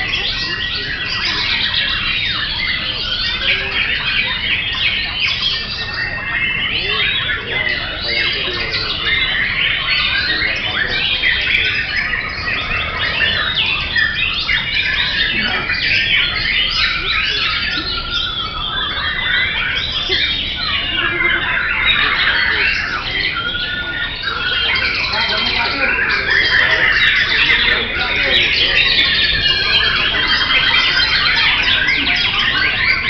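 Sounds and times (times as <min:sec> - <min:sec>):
songbirds singing chorus: 0:00.0 - 0:33.0.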